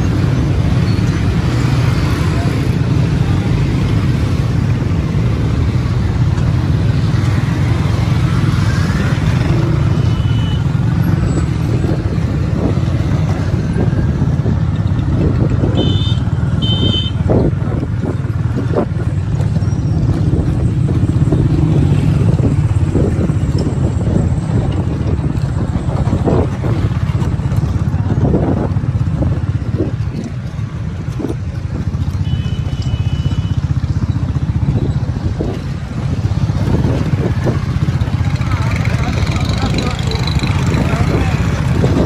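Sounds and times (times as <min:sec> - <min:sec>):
motorcycle engine and road noise: 0:00.0 - 0:42.0.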